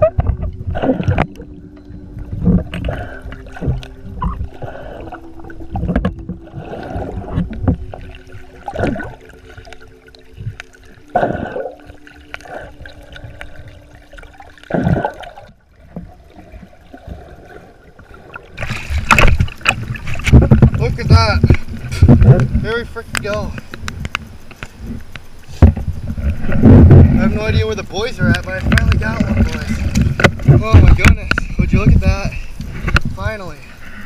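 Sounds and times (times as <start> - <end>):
underwater thumps and swishes: 0.0 - 33.9
faint steady hum: 0.0 - 34.0.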